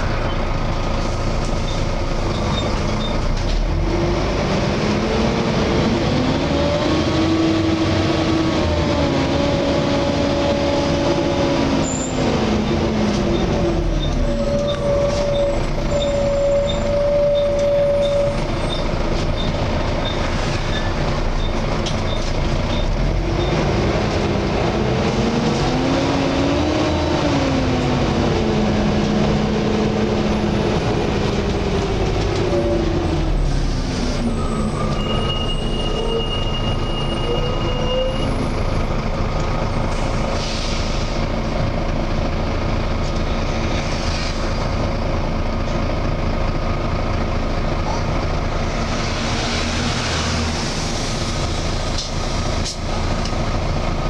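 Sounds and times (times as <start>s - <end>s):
bus engine revving: 0.0s - 54.0s.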